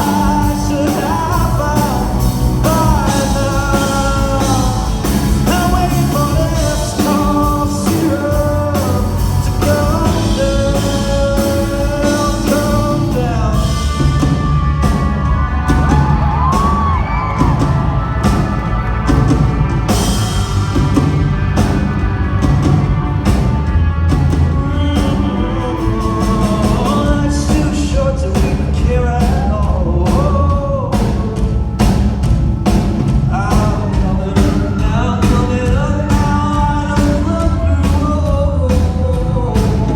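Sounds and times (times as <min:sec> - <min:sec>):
man singing: 0:00.0 - 0:18.4, 0:24.3 - 0:32.3, 0:33.0 - 0:39.9
live rock band: 0:00.0 - 0:39.9.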